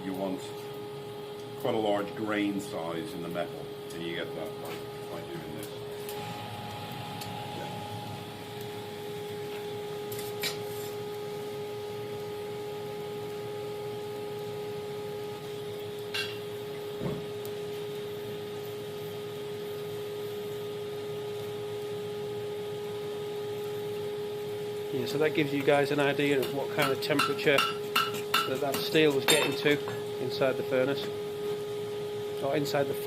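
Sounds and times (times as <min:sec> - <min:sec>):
forge humming: 0:00.0 - 0:33.0.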